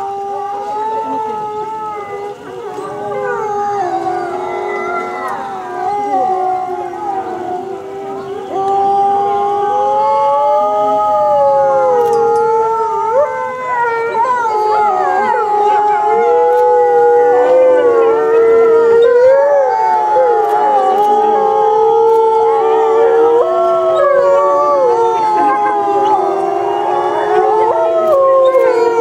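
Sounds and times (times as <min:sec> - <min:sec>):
wolves howling in chorus: 0:00.0 - 0:29.0.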